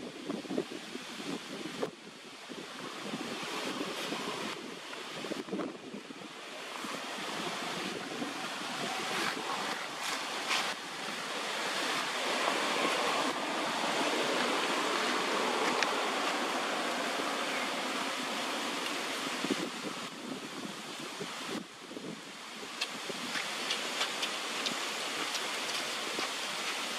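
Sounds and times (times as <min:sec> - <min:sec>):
wind rushing: 0:00.0 - 0:22.2.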